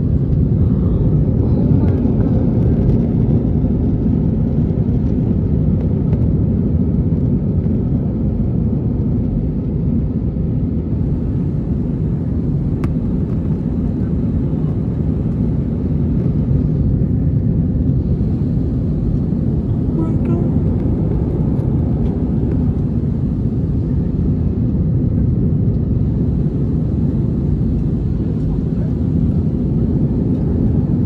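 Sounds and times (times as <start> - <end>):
jet engines and rushing air: 0.0 - 31.0.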